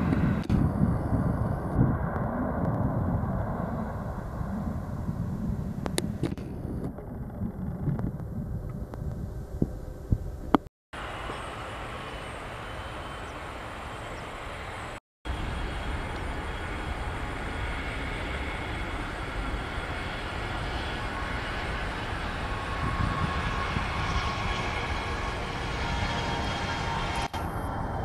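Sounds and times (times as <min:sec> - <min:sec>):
high-pitched engine whine: 0:00.0 - 0:28.0
jet engines taxiing: 0:00.0 - 0:28.0.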